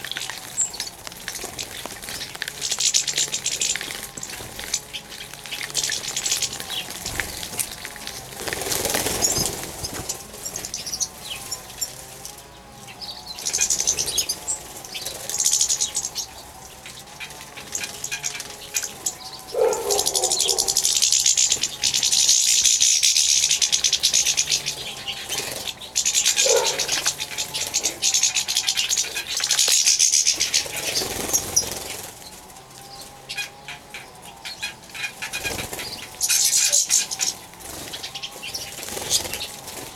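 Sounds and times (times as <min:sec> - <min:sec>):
birds splashing in water: 0:00.0 - 0:39.9.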